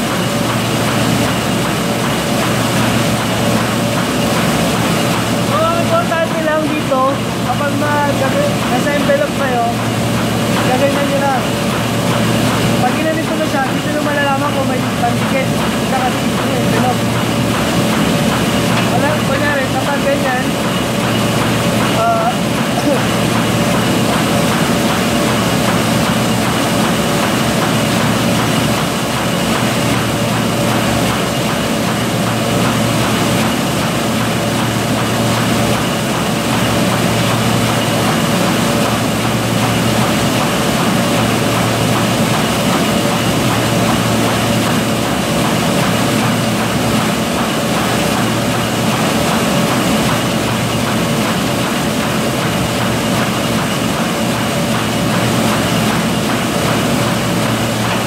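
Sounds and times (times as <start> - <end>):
machine droning: 0.0 - 58.0.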